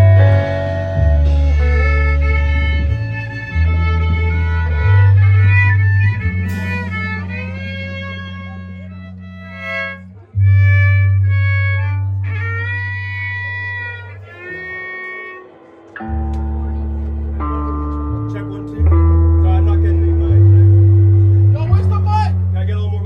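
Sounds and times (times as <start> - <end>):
live band playing: 0.0 - 22.9.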